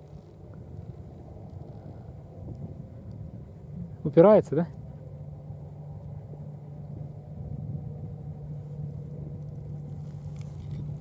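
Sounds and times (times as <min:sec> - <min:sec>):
low rumble: 0:00.0 - 0:11.0
steady low hum: 0:00.0 - 0:11.0.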